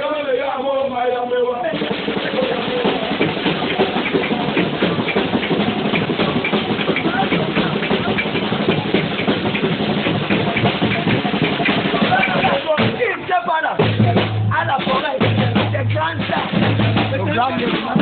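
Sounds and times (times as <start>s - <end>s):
crowd voices: 0.0s - 18.0s
fast bass drumming: 1.7s - 18.0s.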